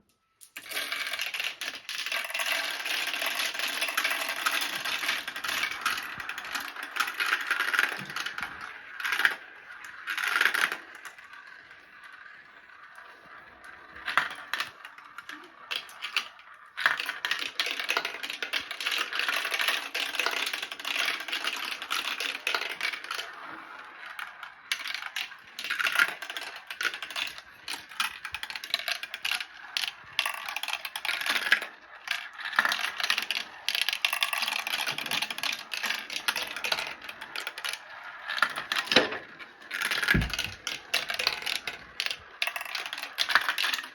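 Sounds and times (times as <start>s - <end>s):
marbles rolling down a track: 0.4s - 43.9s.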